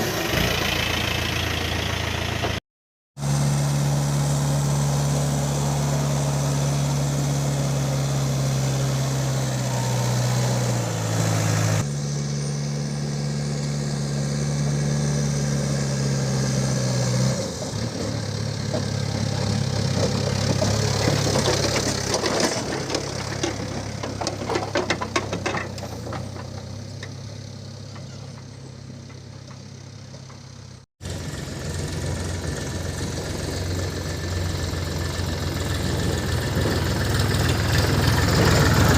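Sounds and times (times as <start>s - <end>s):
diesel engine running: 0.0s - 2.6s, 3.2s - 38.9s.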